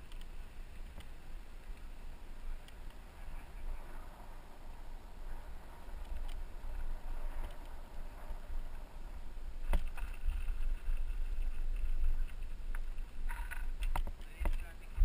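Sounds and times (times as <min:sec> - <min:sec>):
bicycle tyres rolling: 0:00.0 - 0:15.0
wind rumble on microphone: 0:00.0 - 0:15.0.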